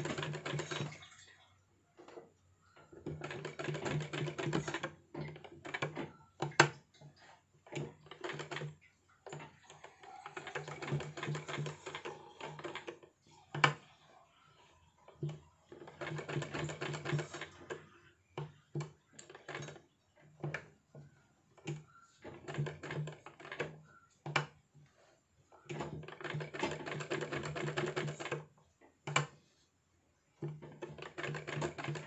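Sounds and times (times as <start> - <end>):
sewing machine stitching: 0.0 - 1.1, 2.0 - 29.4, 30.4 - 32.0.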